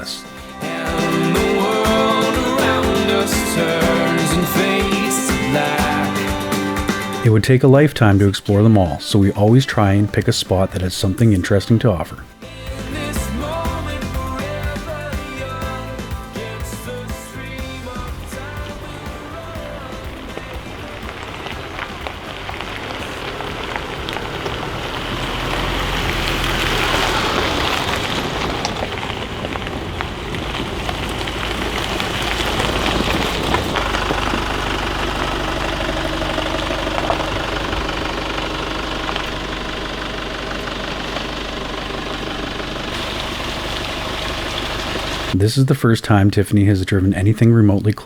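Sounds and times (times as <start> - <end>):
truck engine running: 0.0 - 45.4
tyres crackling on gravel: 0.0 - 45.4.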